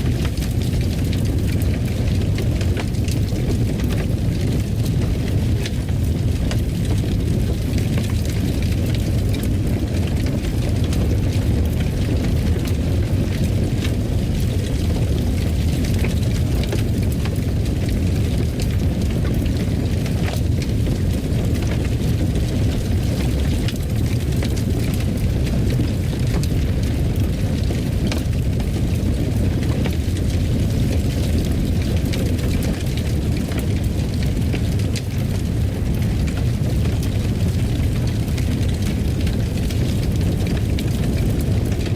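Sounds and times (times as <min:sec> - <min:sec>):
fire crackling and popping: 0:00.0 - 0:41.9
wood fire rumbling: 0:00.0 - 0:41.9.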